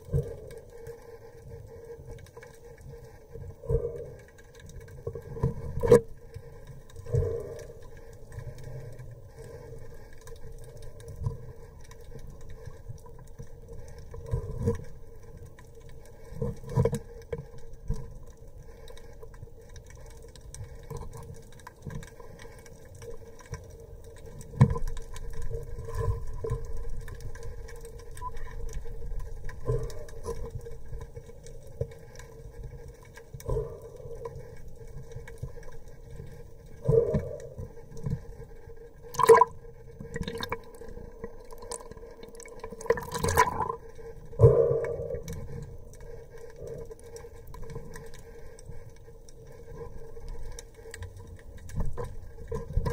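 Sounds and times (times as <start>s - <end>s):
underwater mechanical hum: 0.0s - 52.9s.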